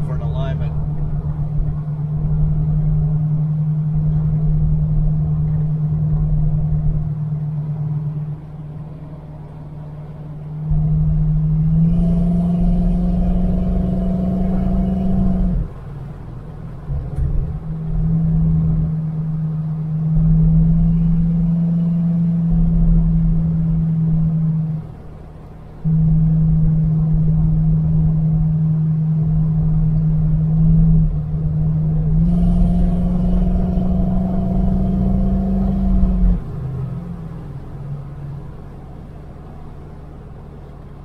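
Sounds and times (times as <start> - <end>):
car engine droning: 0.0 - 41.0.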